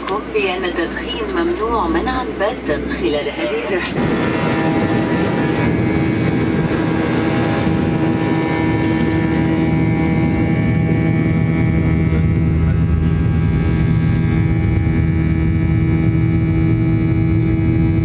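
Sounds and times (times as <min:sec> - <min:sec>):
jet engine whine: 0:00.0 - 0:18.0
jet engines rumbling: 0:00.0 - 0:18.0.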